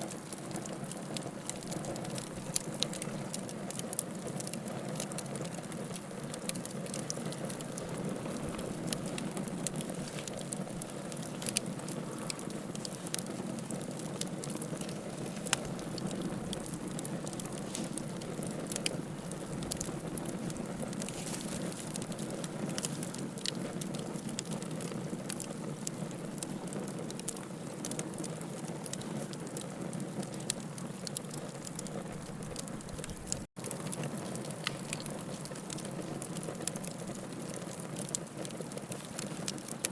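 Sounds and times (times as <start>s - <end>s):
fire crackling and popping: 0.0s - 39.9s
low rush of flames: 0.1s - 39.9s.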